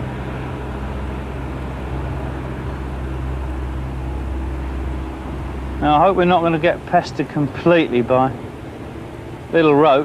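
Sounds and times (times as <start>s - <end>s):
low motor hum: 0.0s - 10.0s
outdoor background noise: 0.0s - 10.0s.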